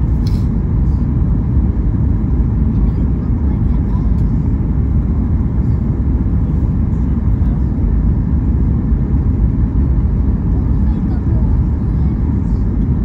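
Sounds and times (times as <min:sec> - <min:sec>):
aircraft cabin engine rumble: 0:00.0 - 0:13.0
rush of airflow: 0:00.0 - 0:13.0.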